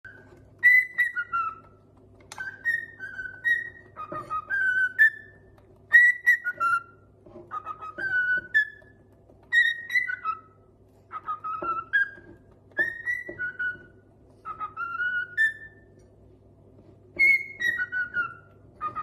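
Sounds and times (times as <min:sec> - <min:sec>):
parrot whistling a tune: 0:00.0 - 0:16.0, 0:17.1 - 0:19.0.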